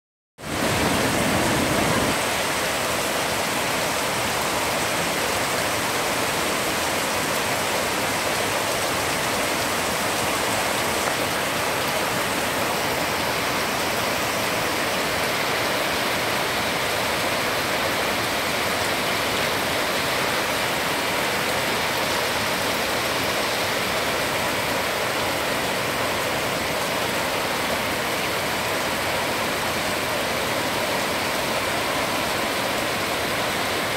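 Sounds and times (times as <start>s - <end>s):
waterfall rushing: 0.4s - 33.9s.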